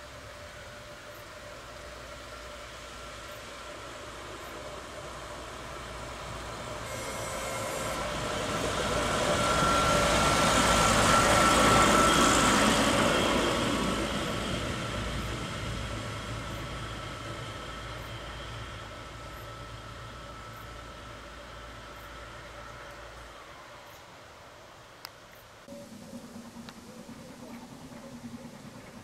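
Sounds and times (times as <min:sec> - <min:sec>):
diesel railcar passing: 0:00.0 - 0:29.0
steady whine: 0:00.0 - 0:29.0.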